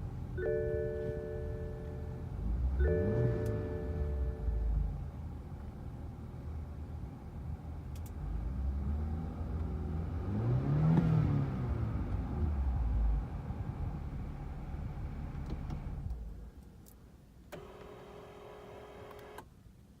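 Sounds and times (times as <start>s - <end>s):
car engine idling and revving: 0.0s - 16.7s, 17.6s - 19.4s.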